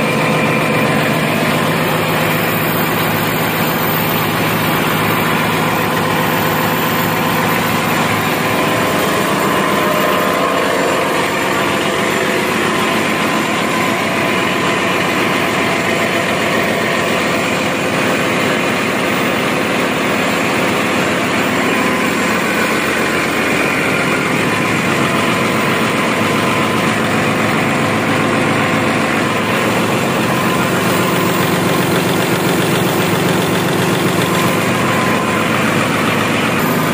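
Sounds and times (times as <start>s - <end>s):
diesel generator engine drone: 0.0s - 36.9s.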